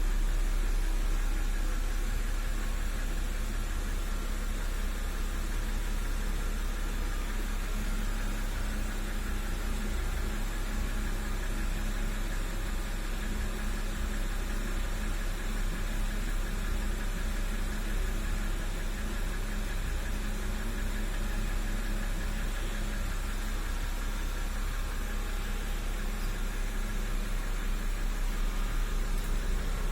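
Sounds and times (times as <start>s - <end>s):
car engine idling with knock: 0.0s - 29.9s.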